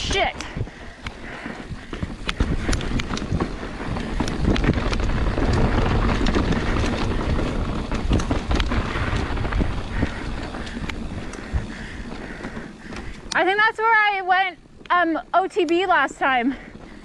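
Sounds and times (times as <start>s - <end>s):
bike clicks and rattles: 0.0s - 17.0s
bike rolling rumble: 0.0s - 17.0s
wind buffeting microphone: 0.0s - 17.0s.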